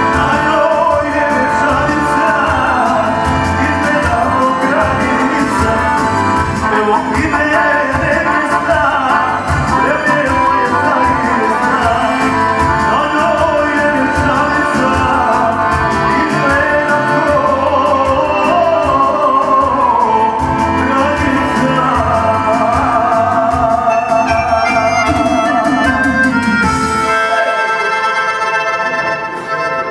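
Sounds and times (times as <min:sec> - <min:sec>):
keyboard with programmed beat: 0:00.0 - 0:27.4
accordion: 0:00.0 - 0:29.9
man singing into microphone: 0:00.0 - 0:29.9.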